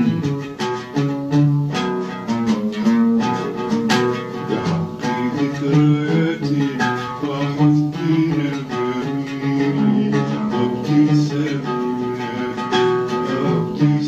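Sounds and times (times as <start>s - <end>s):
oud plucked melody: 0.0s - 14.0s.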